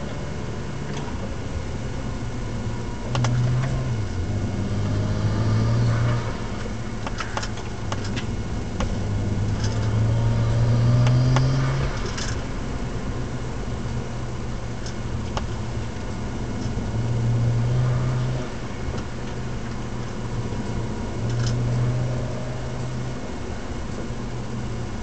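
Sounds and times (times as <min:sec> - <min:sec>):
car engine accelerating: 0:00.0 - 0:25.0
road noise: 0:00.0 - 0:25.0.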